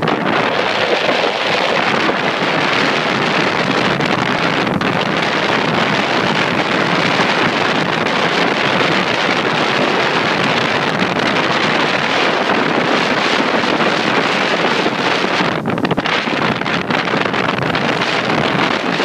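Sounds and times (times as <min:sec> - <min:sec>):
boat engine: 0:00.0 - 0:19.0
water noise: 0:00.0 - 0:19.0
wind buffeting microphone: 0:00.0 - 0:19.0.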